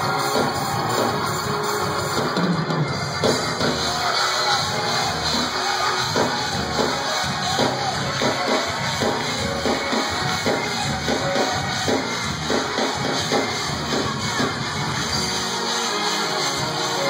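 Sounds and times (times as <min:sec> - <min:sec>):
band playing fast music: 0:00.0 - 0:17.0
drum kit: 0:00.0 - 0:17.0
guitar: 0:00.0 - 0:17.0.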